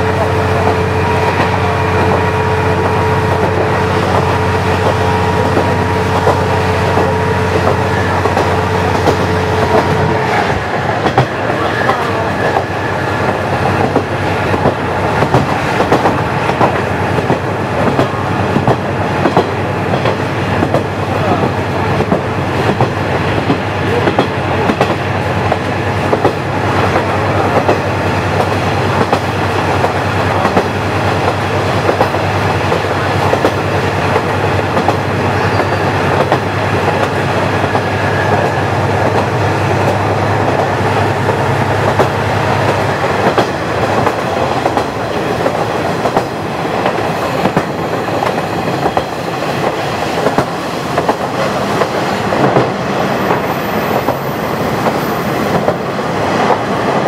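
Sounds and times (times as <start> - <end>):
diesel railcar engine drone: 0.0 - 57.0.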